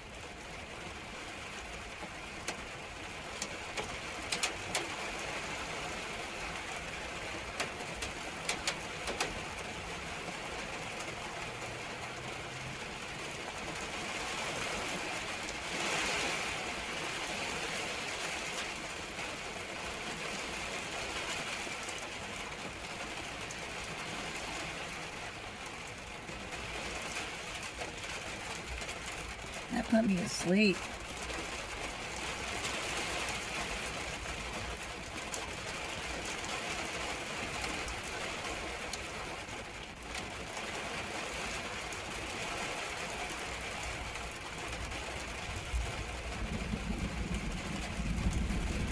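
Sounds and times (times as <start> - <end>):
rain shower hiss: 0.0 - 48.9.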